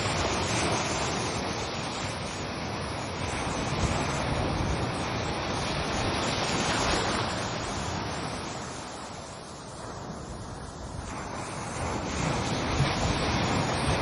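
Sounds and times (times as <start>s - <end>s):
ocean waves washing in: 0.0s - 14.0s.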